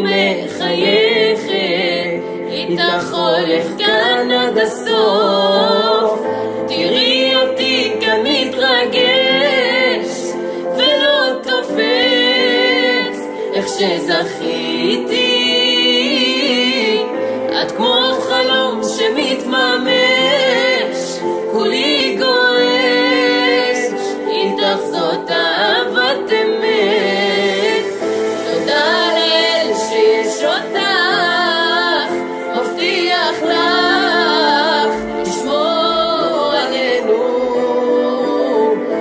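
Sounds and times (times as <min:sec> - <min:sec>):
woman singing with vibrato: 0:00.0 - 0:39.0.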